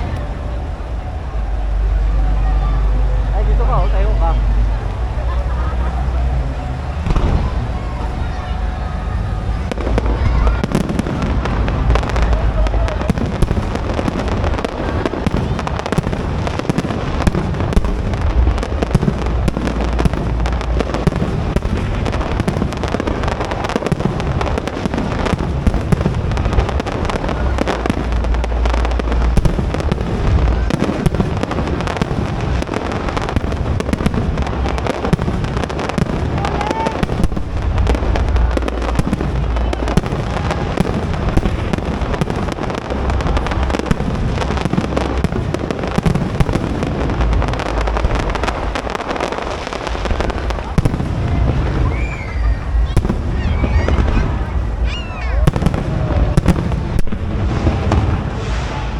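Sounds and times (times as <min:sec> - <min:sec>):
deep fireworks booms: 0:00.0 - 0:58.9
fireworks bursts and crackles: 0:00.0 - 0:58.9.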